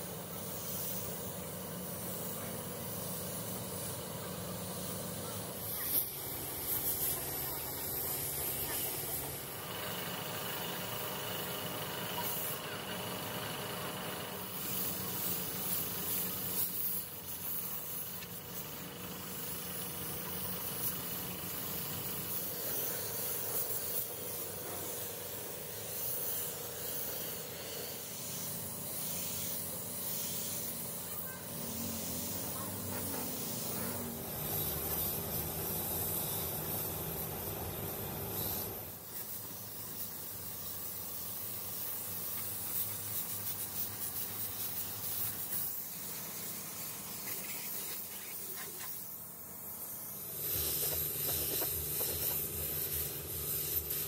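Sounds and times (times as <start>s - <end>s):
steady hissing: 0.0s - 54.0s.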